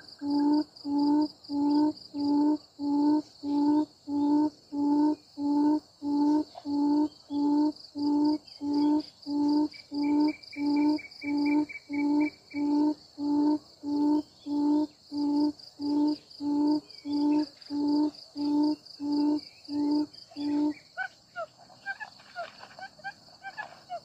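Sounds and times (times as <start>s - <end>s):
high insect buzz: 0.0s - 24.0s
quail hooting: 0.0s - 24.0s.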